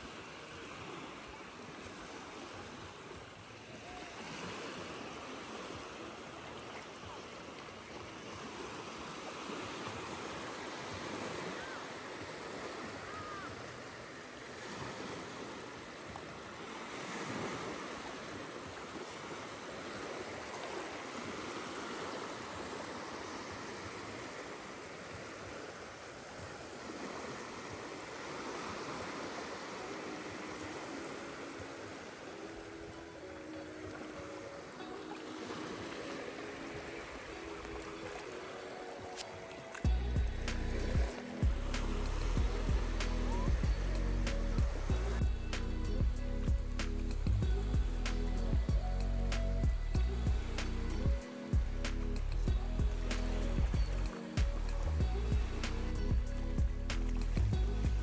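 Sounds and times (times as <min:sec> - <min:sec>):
waves washing up a beach: 0:00.0 - 0:58.0.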